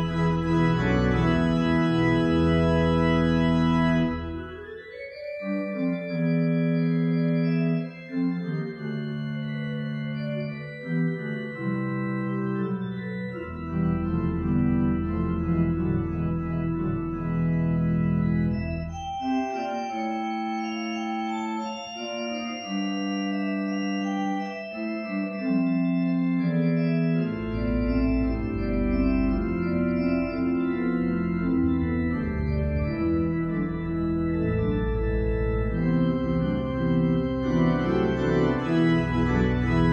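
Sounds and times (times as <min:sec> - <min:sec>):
church organ chords: 0:00.0 - 0:39.9
organ pedal bass notes: 0:00.0 - 0:39.9.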